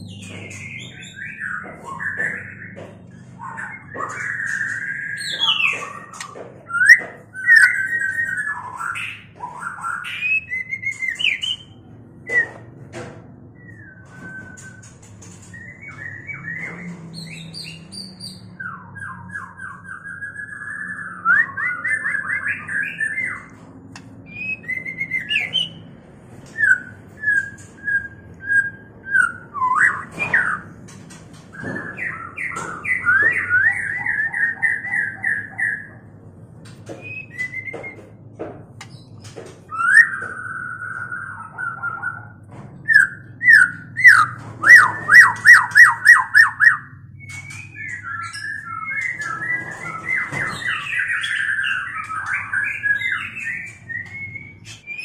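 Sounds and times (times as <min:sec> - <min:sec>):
birds whistling and trilling: 0:00.0 - 0:55.0.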